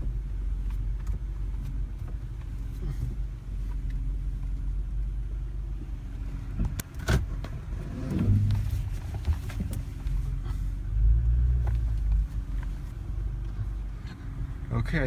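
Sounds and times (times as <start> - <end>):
brake noise: 0.0 - 15.0
minivan reversing slowly: 0.0 - 15.0.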